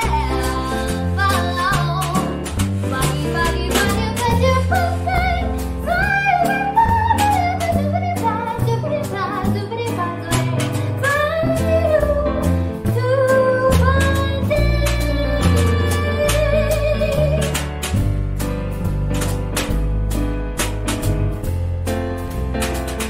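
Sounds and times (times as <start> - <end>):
jazz piano: 0.0 - 23.0
upright bass walking: 0.0 - 23.0.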